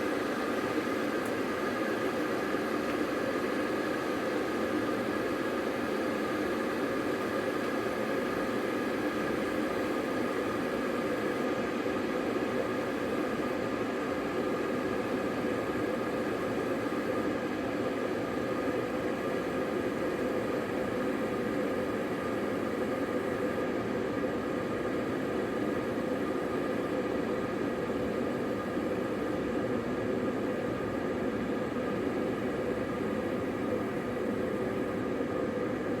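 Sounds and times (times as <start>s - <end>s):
electric kettle heating water: 0.0s - 36.0s.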